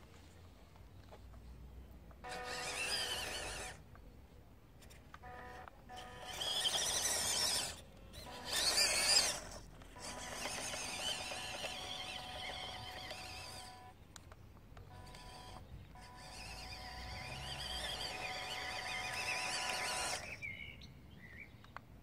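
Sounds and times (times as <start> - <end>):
rc truck motor and gears whining: 2.1 - 4.0, 4.8 - 20.8.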